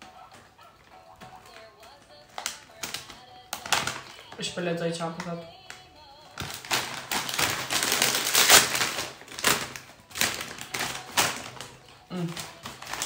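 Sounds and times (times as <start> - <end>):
crisp bag crinkling: 0.0 - 13.0.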